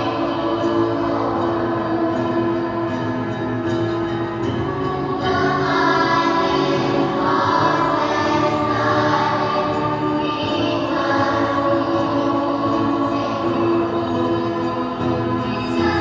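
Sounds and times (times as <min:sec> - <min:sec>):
children's choir singing in harmony: 0:00.0 - 0:16.0.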